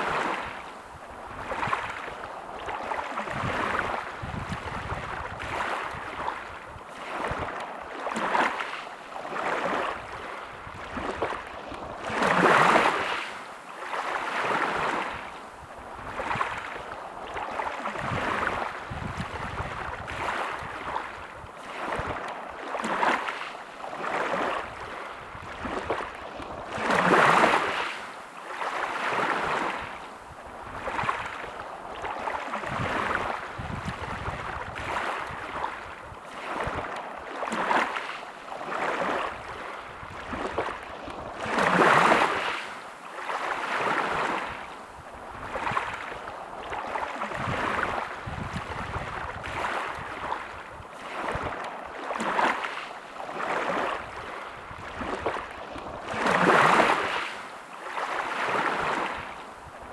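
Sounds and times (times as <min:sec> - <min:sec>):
sea waves breaking on a beach: 0:00.0 - 0:59.9.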